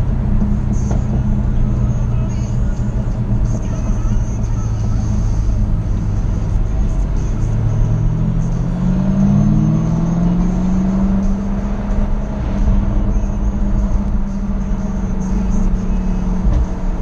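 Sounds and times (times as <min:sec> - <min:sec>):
car engine accelerating: 0:00.0 - 0:17.0
low road rumble: 0:00.0 - 0:17.0.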